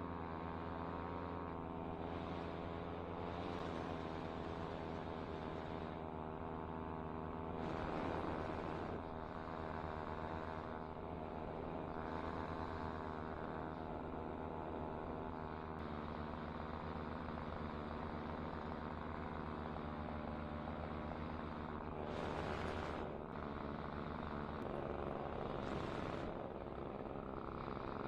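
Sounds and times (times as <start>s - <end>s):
paramotor engine and propeller drone: 0.0s - 28.0s.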